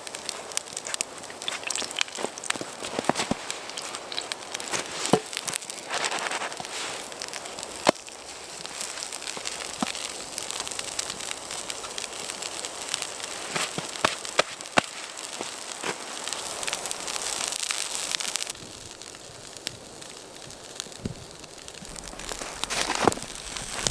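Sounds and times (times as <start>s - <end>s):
steady hiss: 0.0s - 23.9s
wood fire crackling: 0.0s - 23.9s.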